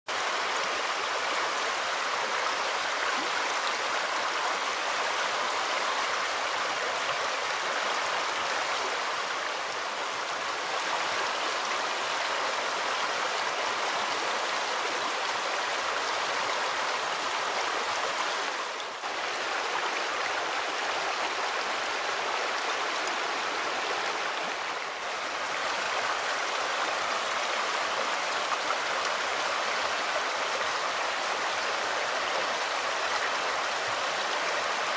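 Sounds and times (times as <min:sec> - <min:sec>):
stream rushing over stones: 0:00.1 - 0:34.9.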